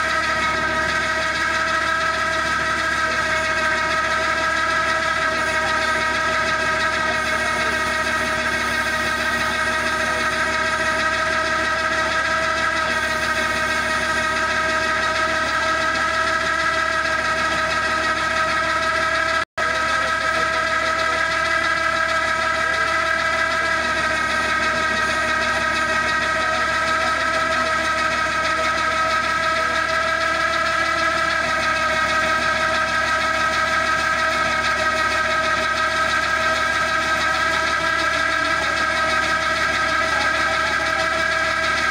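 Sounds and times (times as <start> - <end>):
high hydraulic whine: 0.0 - 41.9
tractor engine running: 0.0 - 41.9.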